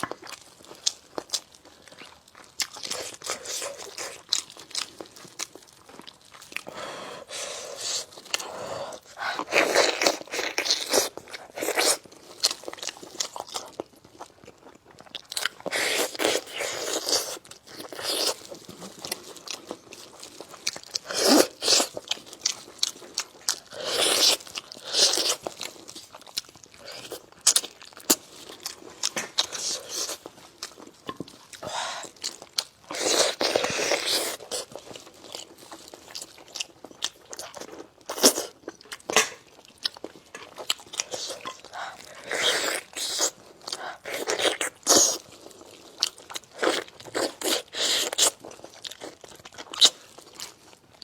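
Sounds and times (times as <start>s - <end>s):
person chewing and crunching food: 0.0s - 51.0s.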